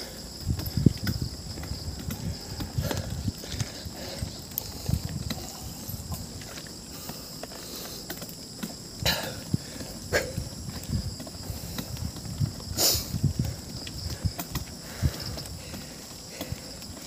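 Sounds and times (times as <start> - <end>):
bicycle clicks and knocks: 0.0 - 17.0.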